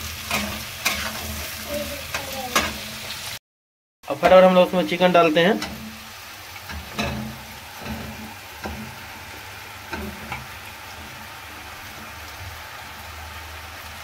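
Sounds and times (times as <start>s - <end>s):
food sizzling in hot oil: 0.0s - 3.4s, 4.1s - 14.0s.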